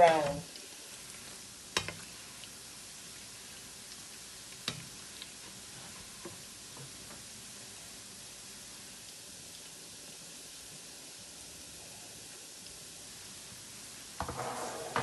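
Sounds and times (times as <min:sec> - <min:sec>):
dough frying in hot oil: 0:00.0 - 0:15.0.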